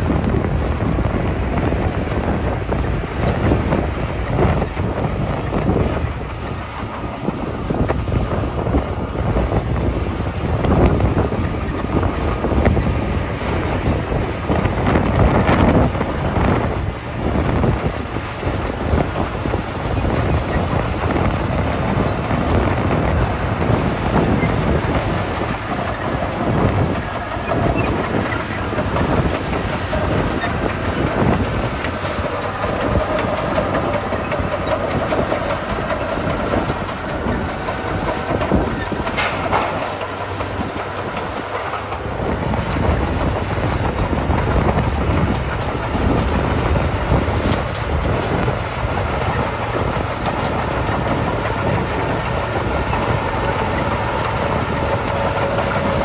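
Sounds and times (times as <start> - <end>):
bulldozer diesel engine under load: 0.0 - 56.0
steel tracks clattering: 0.0 - 56.0.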